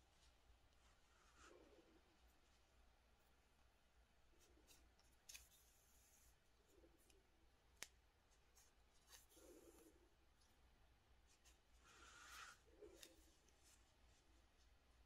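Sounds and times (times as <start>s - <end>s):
faint rustling of yarn: 0.0s - 15.0s.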